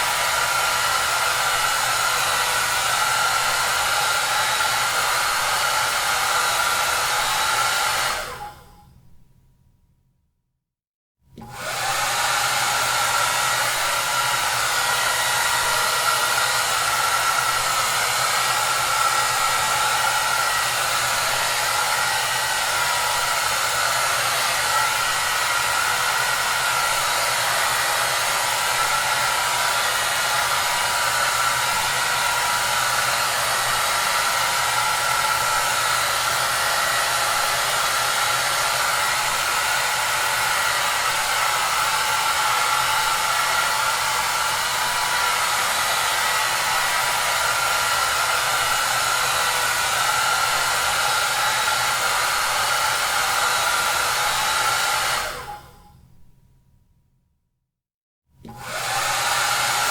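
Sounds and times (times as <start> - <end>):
hair dryer whooshing: 0.0 - 8.9, 11.4 - 55.9, 58.4 - 59.9.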